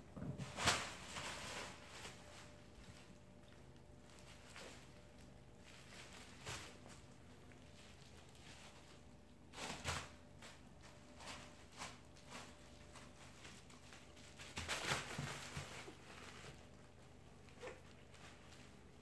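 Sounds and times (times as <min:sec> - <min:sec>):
plastic packaging crinkling: 0:00.4 - 0:19.0.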